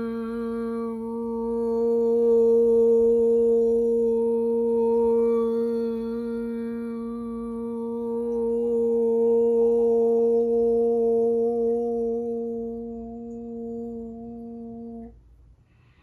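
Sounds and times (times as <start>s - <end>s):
woman humming a long note: 0.0s - 15.2s.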